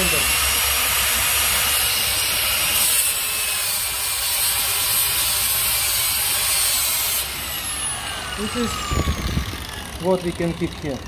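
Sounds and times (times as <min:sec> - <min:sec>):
angle grinder grinding steel: 0:00.0 - 0:11.0
high motor whine: 0:00.0 - 0:11.0.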